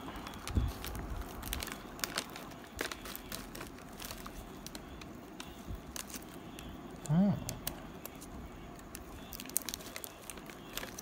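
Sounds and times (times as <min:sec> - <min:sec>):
plastic pouch crinkling and tearing: 0:00.0 - 0:11.0.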